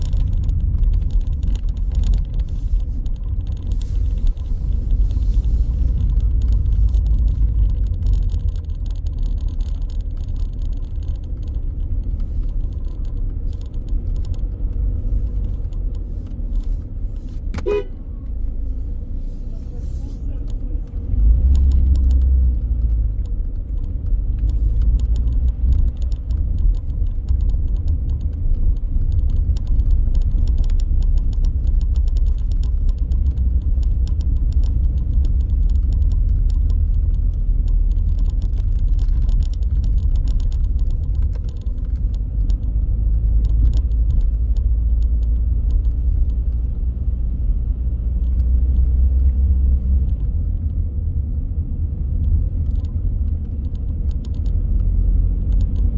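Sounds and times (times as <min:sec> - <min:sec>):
light rattling clicks: 0:00.0 - 0:18.9, 0:20.0 - 0:55.9
car engine and tyres rumbling: 0:00.0 - 0:55.9.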